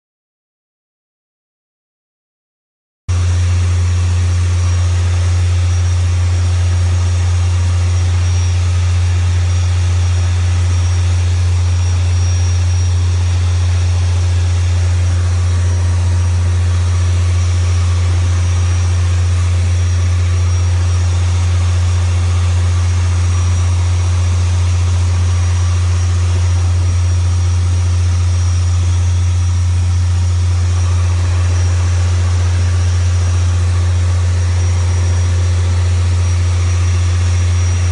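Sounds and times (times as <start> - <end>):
motorboat engine droning: 3.1 - 37.9.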